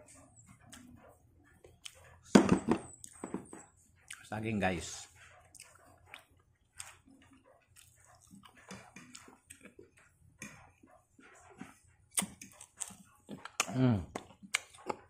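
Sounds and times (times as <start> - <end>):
person chewing food: 0.0 - 2.3, 2.9 - 4.3, 5.2 - 15.0.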